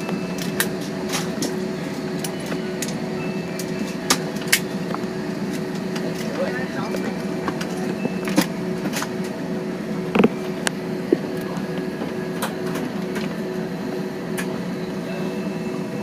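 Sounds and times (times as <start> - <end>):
jet engines droning: 0.0 - 16.0.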